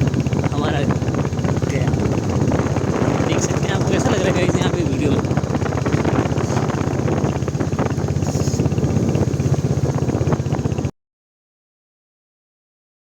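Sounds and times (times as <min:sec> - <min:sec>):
motorcycle engine exhaust beat: 0:00.0 - 0:10.9
wind on microphone: 0:00.0 - 0:10.9.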